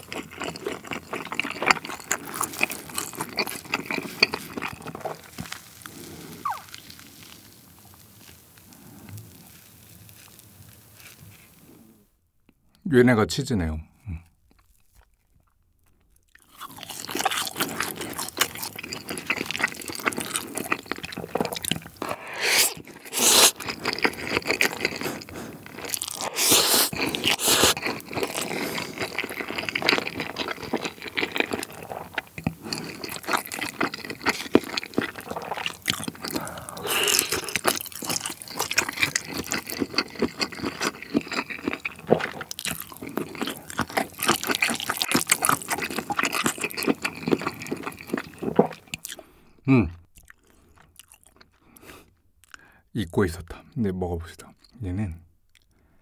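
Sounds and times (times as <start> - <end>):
chewing noodles: 0.0 - 12.0, 14.5 - 49.4, 50.1 - 52.6
crunching crisp food: 0.0 - 12.0, 14.4 - 49.4, 50.1 - 52.6.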